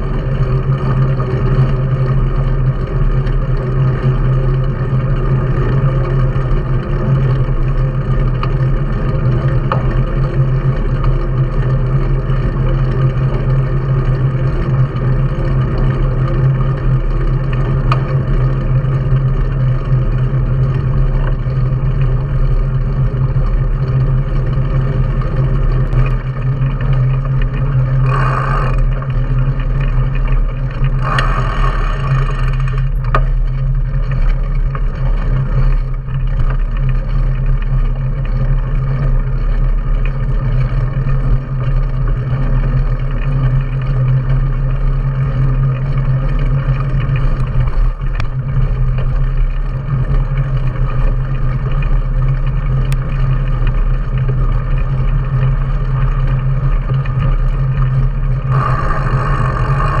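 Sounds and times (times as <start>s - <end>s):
bike tyres road noise: 0.0s - 60.0s.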